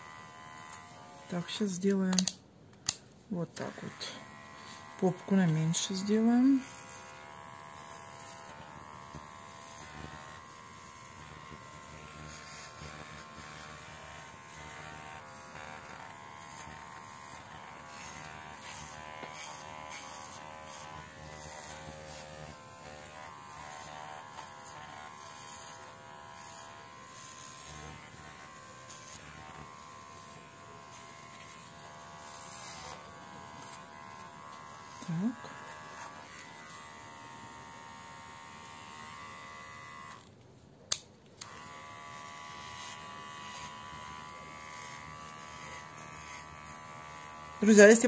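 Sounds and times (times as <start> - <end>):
electric clipper buzzing: 0.0 - 48.0.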